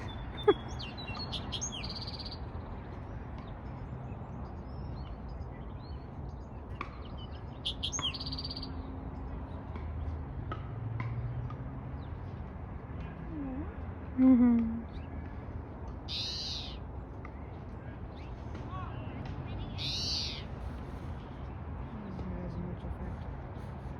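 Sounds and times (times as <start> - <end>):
songbird chirps and trills: 0.0 - 10.1, 13.3 - 23.7.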